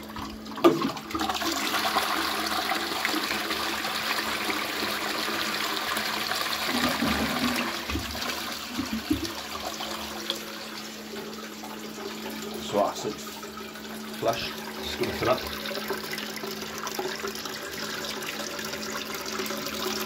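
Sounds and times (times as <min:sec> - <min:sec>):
draining bowl gurgling: 0:00.0 - 0:20.0
toilet flushing: 0:00.0 - 0:20.0.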